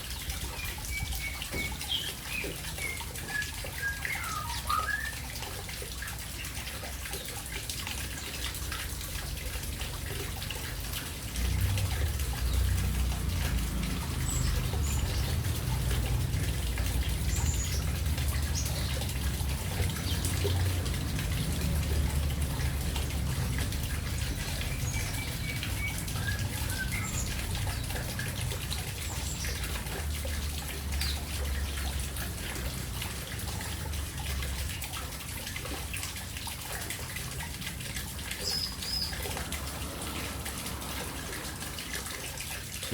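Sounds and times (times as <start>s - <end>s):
water splashing and trickling: 0.0s - 42.9s.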